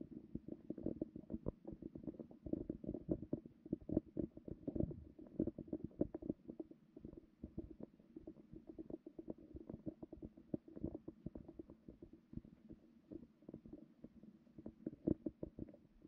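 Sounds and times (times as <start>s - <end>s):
soft underwater clicks and knocks: 0.3s - 15.9s.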